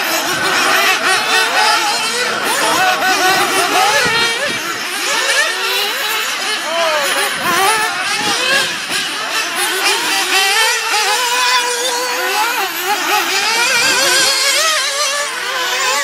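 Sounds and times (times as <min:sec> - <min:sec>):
small engines buzzing high-pitched: 0:00.0 - 0:16.0.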